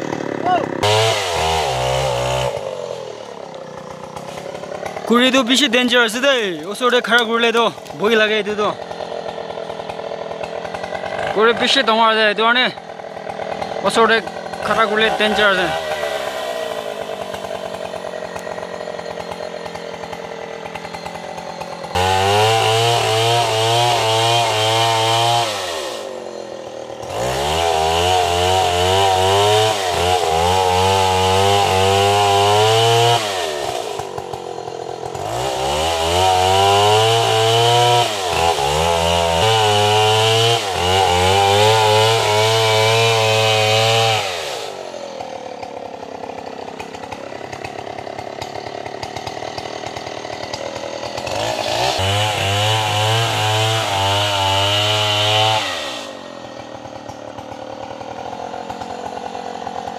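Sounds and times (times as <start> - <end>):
chainsaw cutting tree trunk: 0.0 - 59.9.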